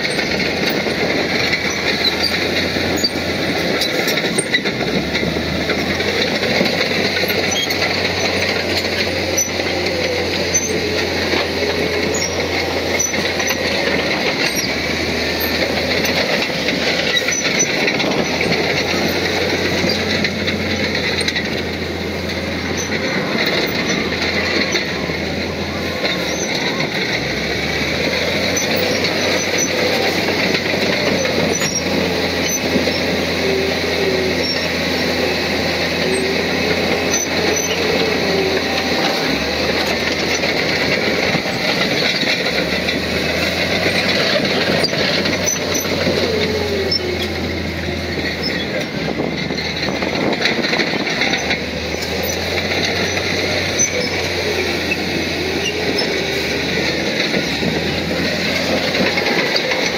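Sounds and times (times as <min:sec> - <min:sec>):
diesel engine: 0:00.0 - 0:59.9
steel tracks squealing and clanking: 0:00.0 - 0:59.9.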